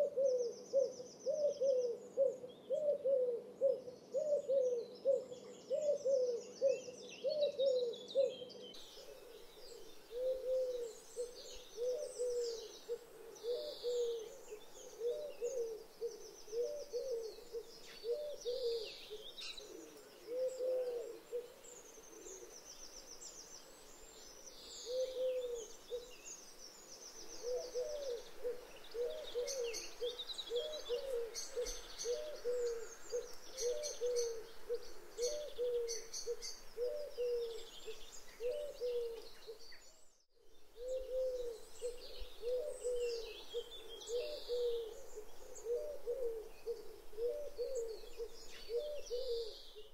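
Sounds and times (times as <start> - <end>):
dove cooing: 0.0 - 22.7, 24.7 - 26.2, 27.2 - 39.6, 40.7 - 49.9
small songbirds chirping: 0.0 - 49.9.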